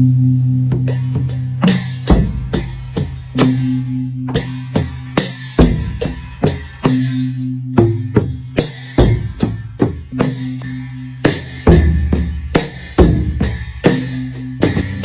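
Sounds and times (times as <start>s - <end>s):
large drum beaten: 0.0s - 15.0s
steady ringing tones: 0.0s - 15.0s.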